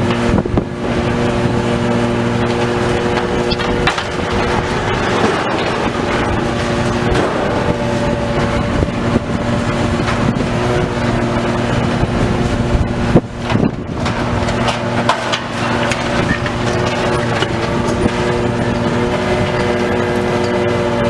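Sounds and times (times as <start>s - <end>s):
diesel demolition machinery: 0.0s - 21.0s.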